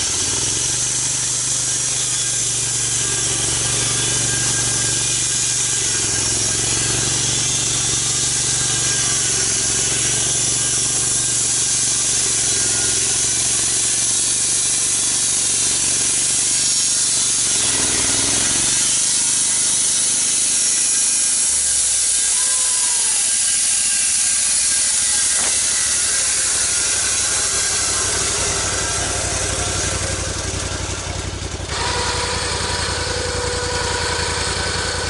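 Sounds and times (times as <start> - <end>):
engine drone: 0.0 - 35.0
saw cutting through log: 0.0 - 35.0.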